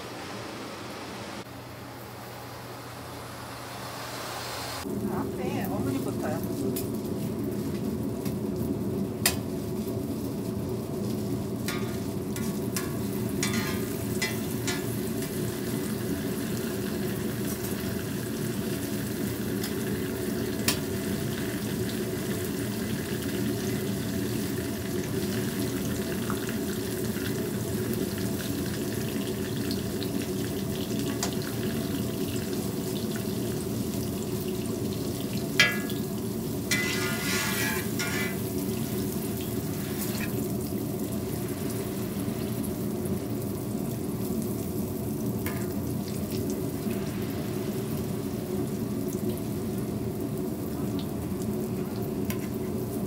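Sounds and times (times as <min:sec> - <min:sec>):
food sizzling in oil: 0:00.1 - 0:53.0.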